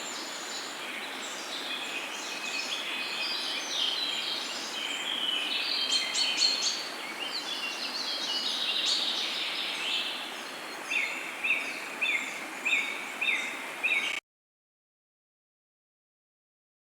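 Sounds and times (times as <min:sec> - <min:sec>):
background hiss: 0:00.0 - 0:14.2
wild birds chirping: 0:00.0 - 0:14.2.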